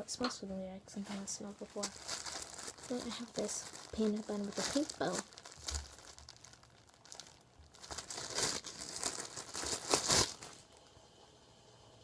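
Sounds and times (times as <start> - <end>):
plastic packaging crinkling: 1.1 - 10.9.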